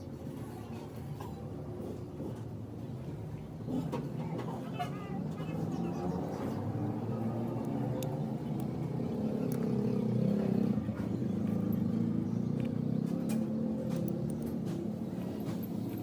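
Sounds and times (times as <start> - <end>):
vehicle engine running: 1.8 - 16.0.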